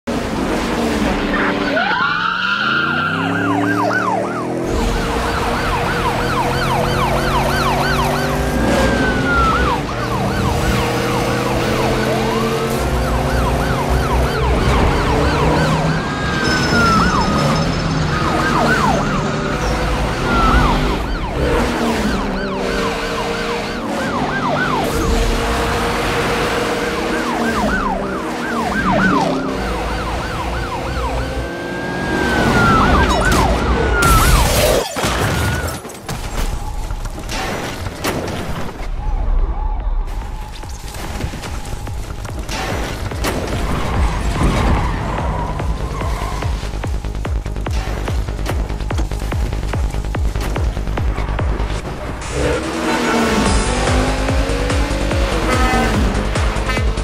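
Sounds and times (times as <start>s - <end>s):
car engines revving: 0.0s - 34.9s, 40.0s - 57.0s
police sirens yelping: 1.2s - 37.2s, 38.8s - 47.6s, 48.2s - 57.0s.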